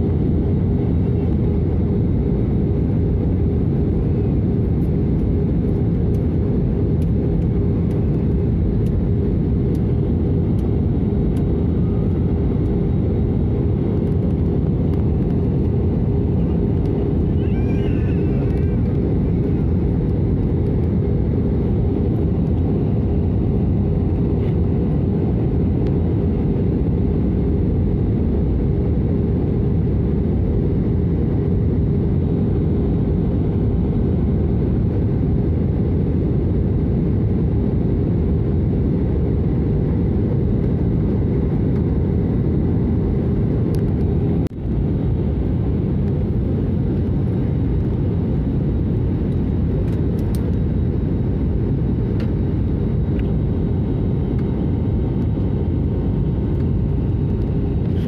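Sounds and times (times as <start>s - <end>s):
jet engine and airflow rumble: 0.0s - 58.0s.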